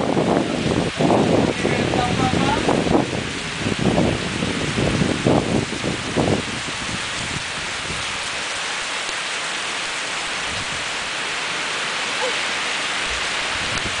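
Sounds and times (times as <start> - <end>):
windstorm hiss: 0.0 - 14.0.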